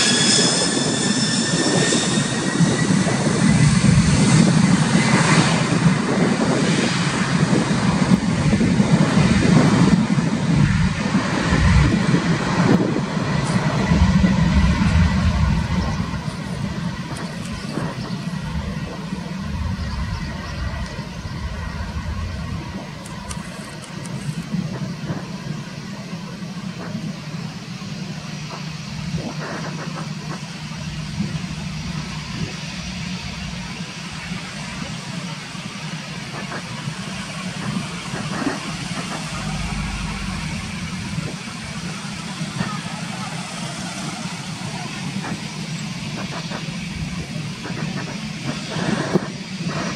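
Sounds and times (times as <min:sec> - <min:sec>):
deep rumble: 0:00.0 - 0:49.9
jet engines at takeoff thrust: 0:00.0 - 0:49.9.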